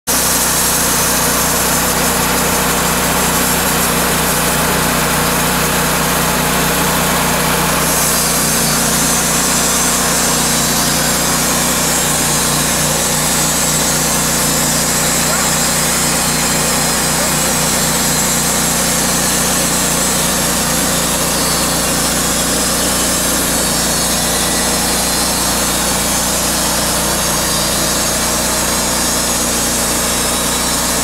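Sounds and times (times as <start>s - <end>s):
band blade sawing through log: 0.1s - 31.0s
sawmill engine under load: 0.1s - 31.0s.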